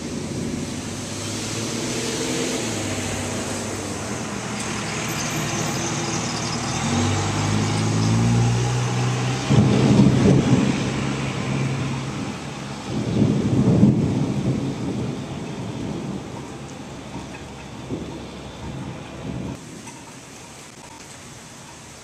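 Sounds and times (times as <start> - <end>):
rough engine rumble: 0.0 - 19.9
rain hiss: 0.0 - 22.0.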